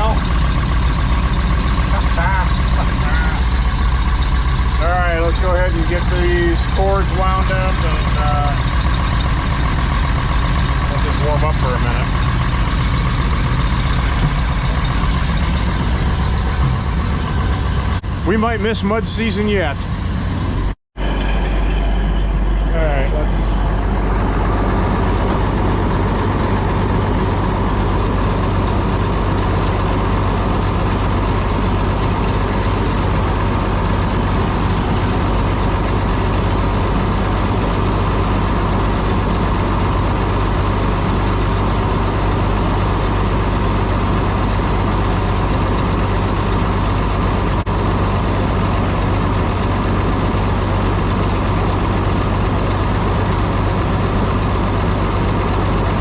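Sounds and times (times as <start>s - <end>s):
combine engine idling: 0.0s - 56.0s.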